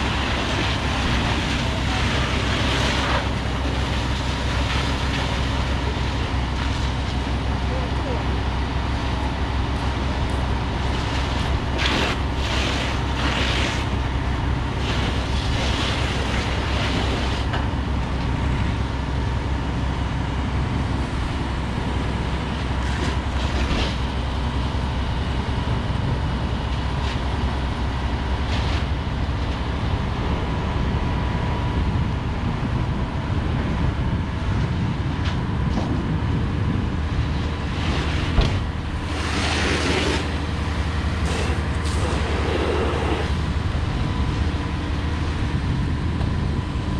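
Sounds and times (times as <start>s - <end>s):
heavy vehicle engines droning: 0.0s - 46.9s.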